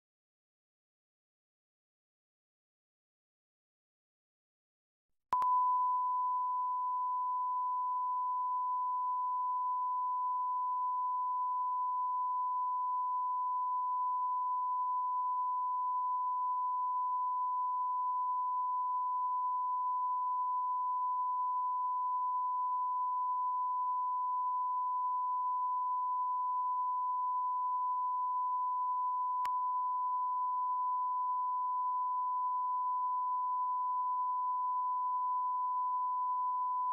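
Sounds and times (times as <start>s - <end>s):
pure test tone beep: 5.4s - 36.9s.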